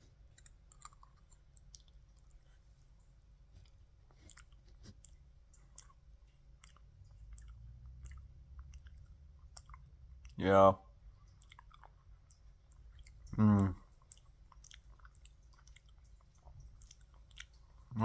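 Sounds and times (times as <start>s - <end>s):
person chewing: 0.0s - 2.7s, 3.5s - 10.4s, 11.2s - 17.9s.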